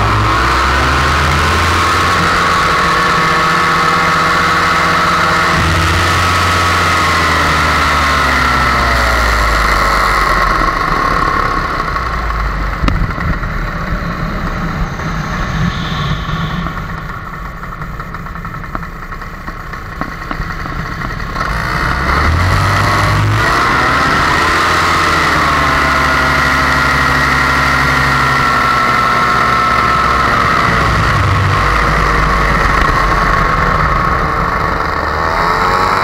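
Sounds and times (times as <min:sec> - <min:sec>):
paramotor engine and propeller: 0:00.0 - 0:36.0.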